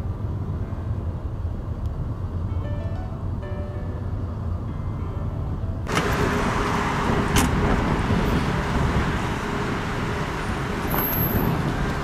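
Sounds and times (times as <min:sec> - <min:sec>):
road vehicle rumbling: 0:00.0 - 0:12.0
rushing road noise: 0:00.0 - 0:12.0.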